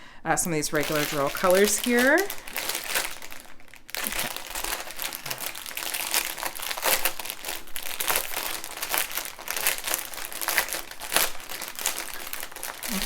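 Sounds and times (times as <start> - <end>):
plastic bags crinkling: 0.4 - 13.0.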